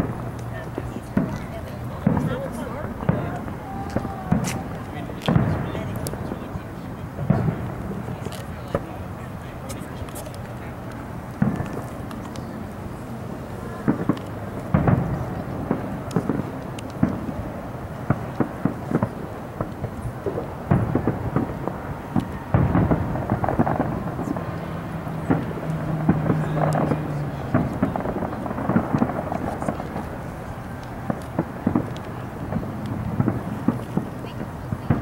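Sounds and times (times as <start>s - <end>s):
firework shells booming: 0.0s - 12.6s, 13.7s - 35.0s
crackling firework pops: 0.0s - 35.0s.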